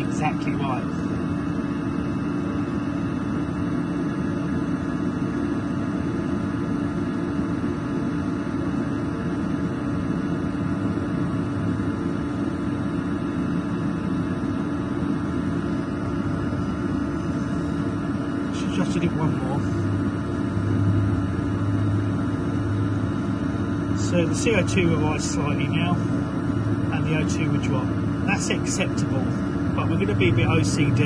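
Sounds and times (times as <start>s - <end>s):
boiler burner and fan humming: 0.0s - 31.0s.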